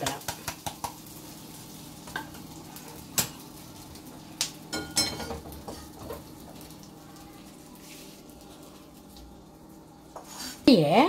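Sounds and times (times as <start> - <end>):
spice frying in oil: 0.0 - 11.0.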